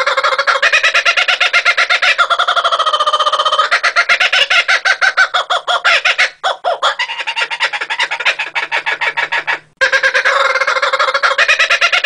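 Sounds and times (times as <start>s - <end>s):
kookaburra chuckling call: 0.0s - 12.0s.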